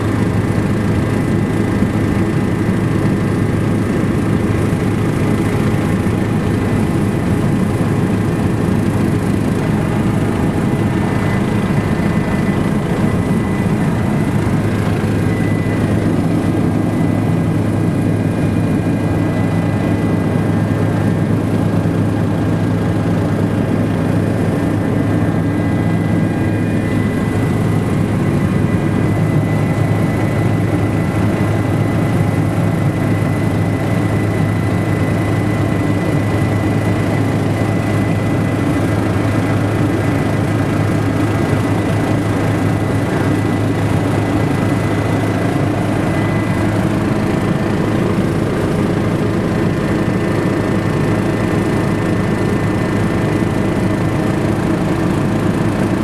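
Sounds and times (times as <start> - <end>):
helicopter rotor and engine drone: 0.0 - 56.0
high whine: 4.6 - 51.7.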